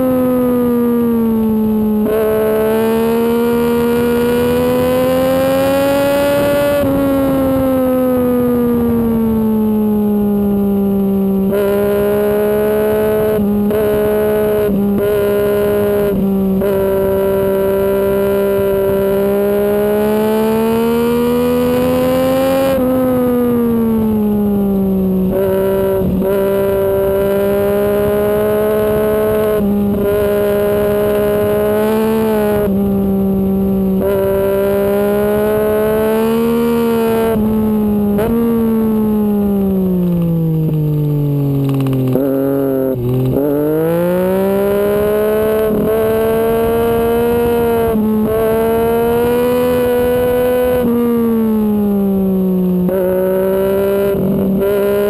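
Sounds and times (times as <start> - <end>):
motorcycle engine at high revs: 0.0 - 55.0.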